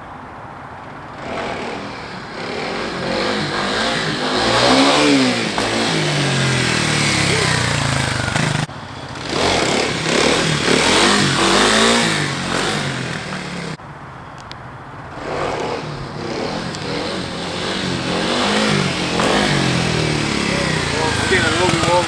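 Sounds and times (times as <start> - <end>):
dirt bike engine revving: 1.0 - 13.8, 15.0 - 22.0.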